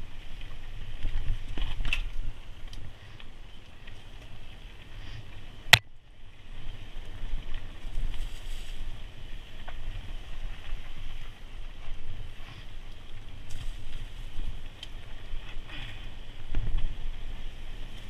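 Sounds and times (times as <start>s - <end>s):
rustling trail noise: 0.0s - 18.0s.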